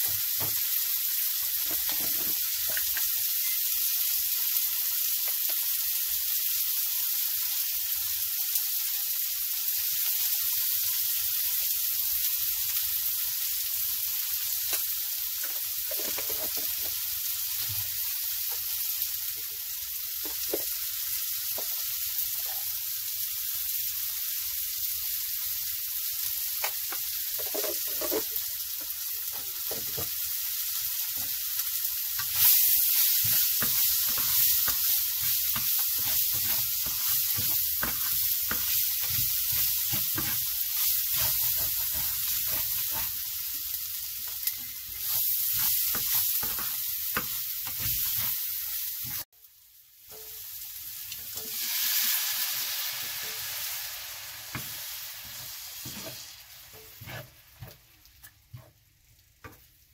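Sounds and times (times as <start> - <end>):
food frying in oil: 0.0 - 59.9.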